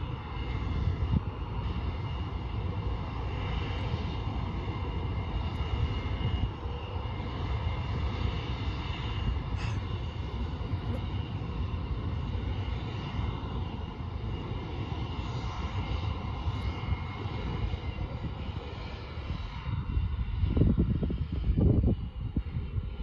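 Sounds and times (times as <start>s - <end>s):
jet engines whining: 0.0s - 23.0s
wind buffeting microphone: 0.0s - 23.0s.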